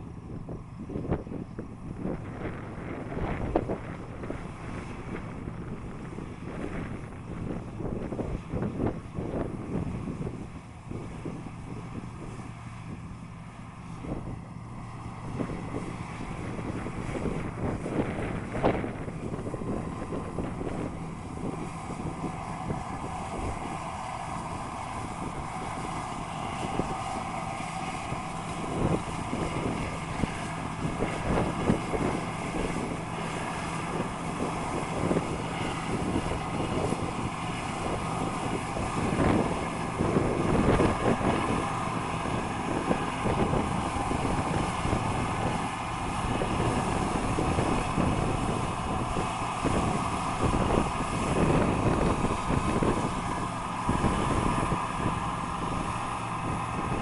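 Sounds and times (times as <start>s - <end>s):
farm machinery engine running: 0.0s - 57.0s
wind buffeting microphone: 0.0s - 57.0s.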